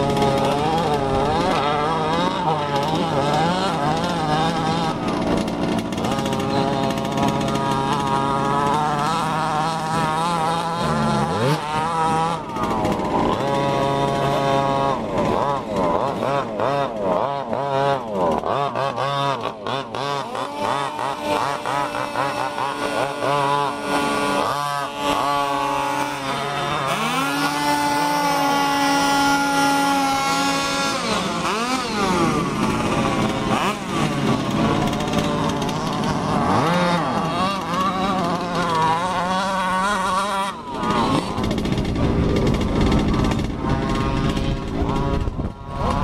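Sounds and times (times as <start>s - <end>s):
radio-controlled car engines revving: 0.0s - 46.0s.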